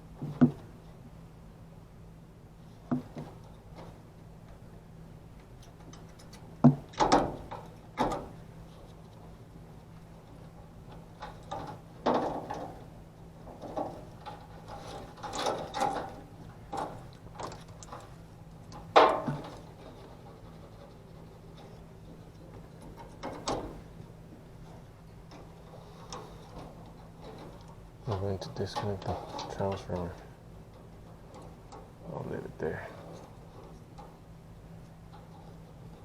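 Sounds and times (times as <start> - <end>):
faint steady low hum: 0.0 - 36.0.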